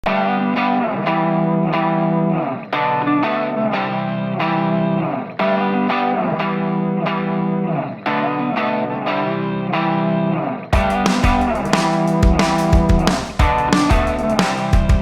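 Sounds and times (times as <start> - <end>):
electric guitar picking a phrase: 0.0 - 15.0.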